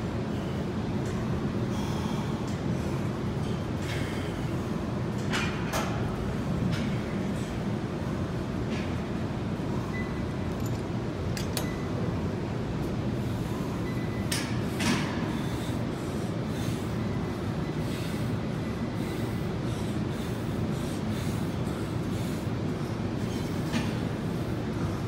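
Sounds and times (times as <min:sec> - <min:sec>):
low rumble of gym noise: 0:00.0 - 0:25.0.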